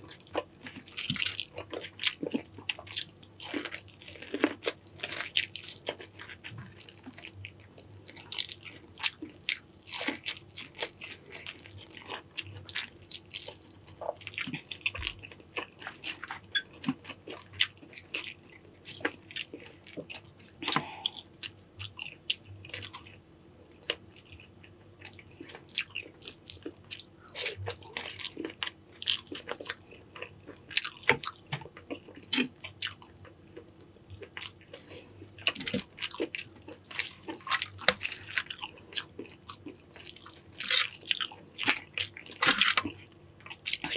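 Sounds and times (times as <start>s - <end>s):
person chewing and crunching: 0.0s - 43.9s.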